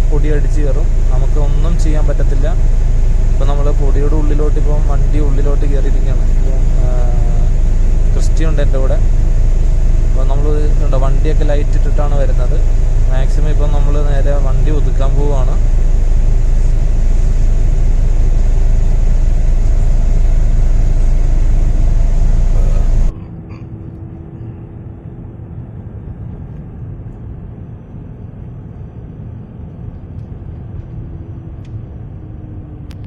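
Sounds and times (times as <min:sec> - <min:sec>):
faint hum: 0:00.0 - 0:33.0.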